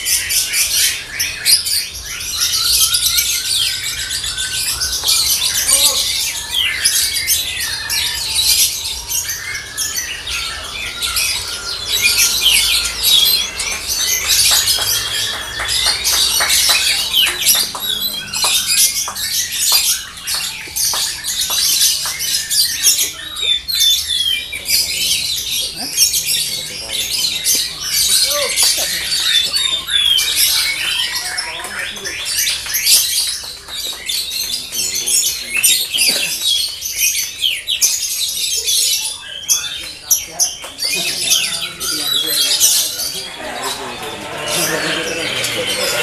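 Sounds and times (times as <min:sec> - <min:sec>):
lovebirds chirping and trilling: 0:00.0 - 0:46.0.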